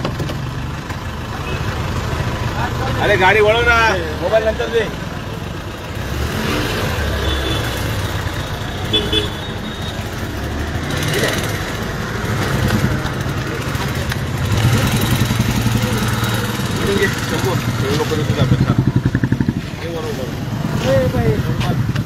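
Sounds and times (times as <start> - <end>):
road traffic engines: 0.0 - 22.0.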